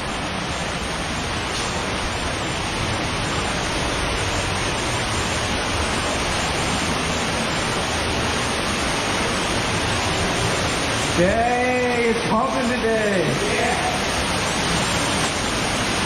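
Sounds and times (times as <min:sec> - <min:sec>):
fast-flowing stream rushing: 0:00.0 - 0:16.0.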